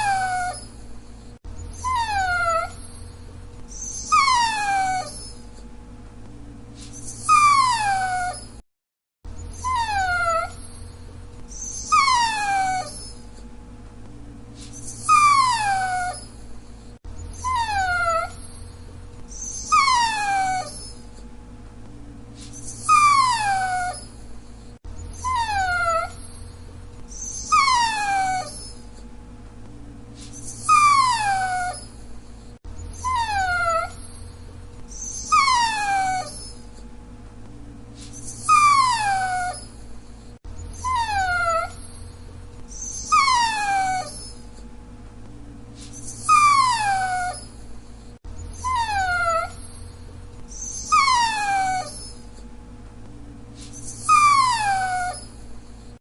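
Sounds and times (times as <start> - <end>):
dog whining: 0.0 - 5.7, 6.8 - 8.6, 9.3 - 13.5, 14.6 - 21.3, 22.4 - 29.1, 30.2 - 36.9, 38.0 - 44.7, 45.8 - 52.5, 53.6 - 56.0.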